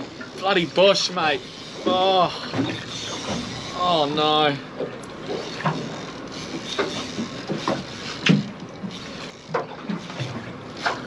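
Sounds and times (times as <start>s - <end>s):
fishing reel drag paying out: 0.1s - 4.2s, 5.1s - 11.0s.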